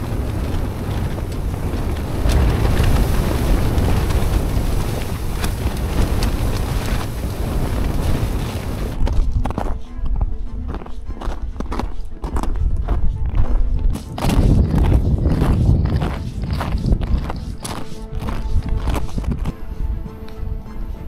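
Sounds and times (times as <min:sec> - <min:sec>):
tent fly sheet flapping: 0:00.0 - 0:20.0
blizzard wind: 0:00.0 - 0:21.0
heavy wind rumble on microphone: 0:00.0 - 0:21.0.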